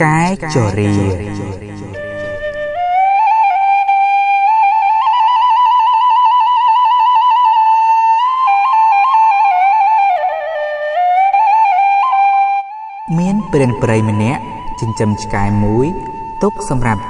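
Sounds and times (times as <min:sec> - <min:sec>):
solo flute melody with trills: 0:00.5 - 0:17.0.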